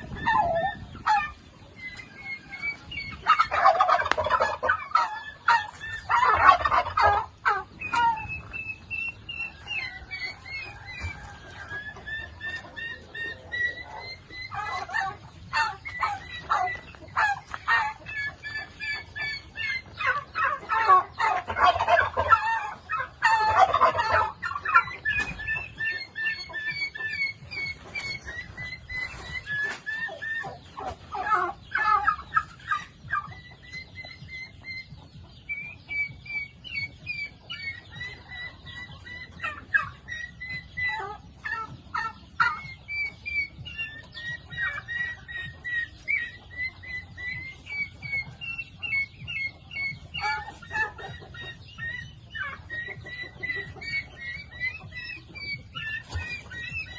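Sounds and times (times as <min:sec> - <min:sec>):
poultry peeping calls: 0:00.0 - 0:56.9.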